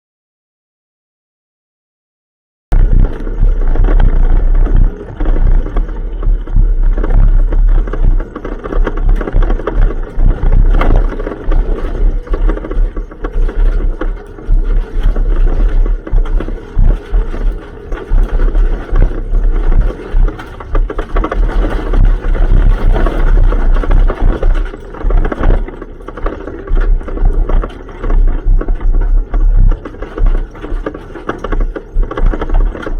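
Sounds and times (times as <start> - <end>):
rally car engine running: 2.7 - 32.9
rattling and scraping clicks: 2.7 - 32.9.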